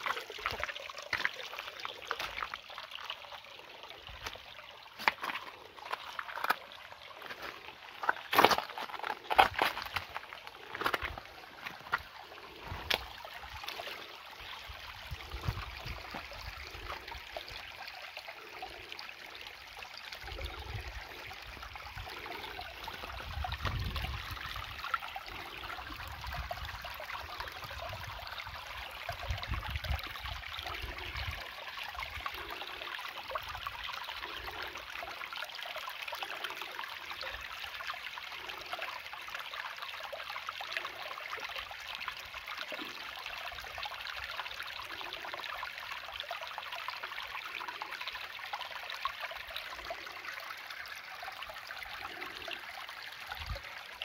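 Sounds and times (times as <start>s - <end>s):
creek water over stones: 0.0s - 54.0s.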